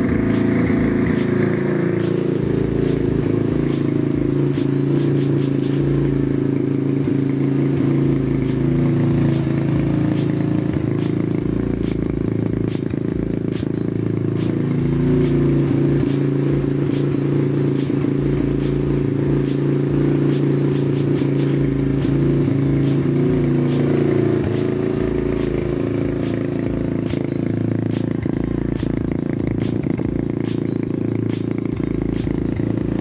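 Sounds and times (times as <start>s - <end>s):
minibike engine idling: 0.0s - 33.0s.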